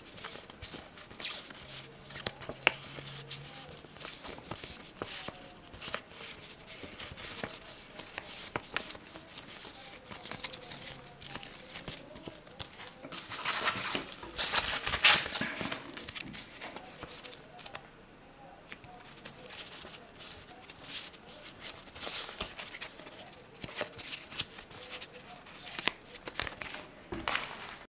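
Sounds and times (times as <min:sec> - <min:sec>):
rustling and clicking of cards: 0:00.0 - 0:17.8, 0:18.7 - 0:27.9.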